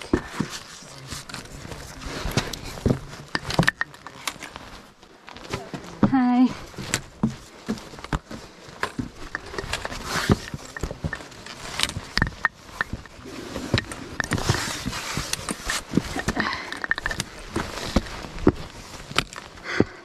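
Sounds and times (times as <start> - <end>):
footsteps on rock: 0.0 - 20.0
rustling: 0.0 - 20.0.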